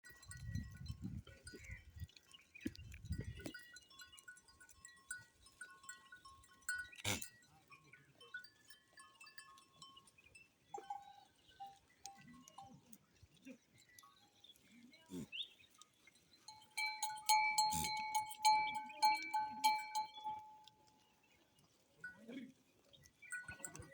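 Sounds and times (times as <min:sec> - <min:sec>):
goat bells clinking: 0:00.0 - 0:14.8, 0:15.7 - 0:23.9.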